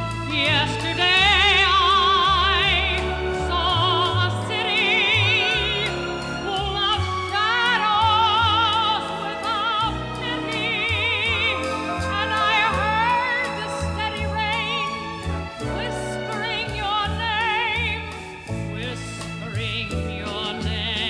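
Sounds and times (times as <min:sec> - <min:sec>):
instrumental accompaniment: 0:00.0 - 0:21.0
woman singing operatically: 0:00.0 - 0:21.0.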